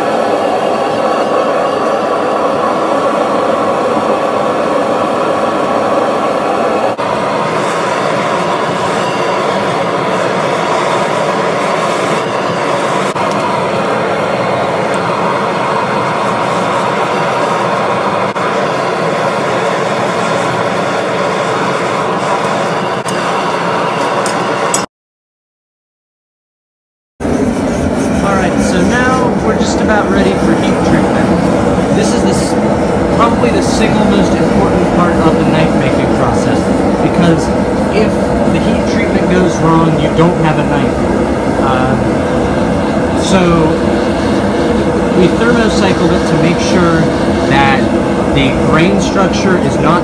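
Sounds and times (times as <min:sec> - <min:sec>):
forge burner rushing: 0:00.0 - 0:24.9, 0:27.2 - 0:50.0.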